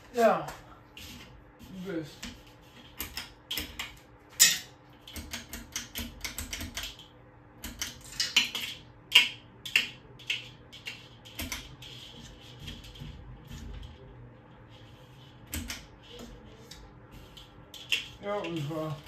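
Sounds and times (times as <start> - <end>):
fan motor hum: 0.0 - 19.0.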